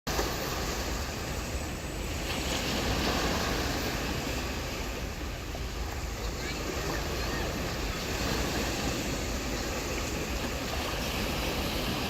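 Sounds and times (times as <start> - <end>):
sea waves breaking on a beach: 0.1 - 12.0.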